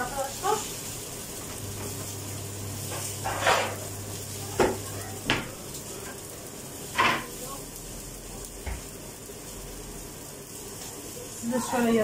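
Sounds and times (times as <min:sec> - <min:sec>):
meatballs sizzling in a pan: 0:00.0 - 0:12.0.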